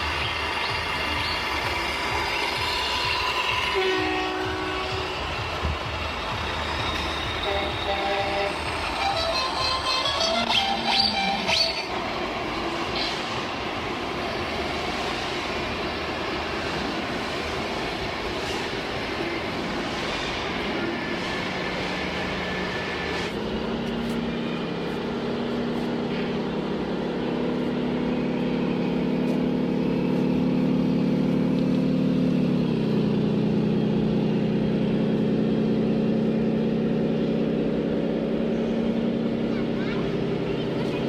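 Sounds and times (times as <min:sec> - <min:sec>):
engine hum: 0:00.0 - 0:41.0.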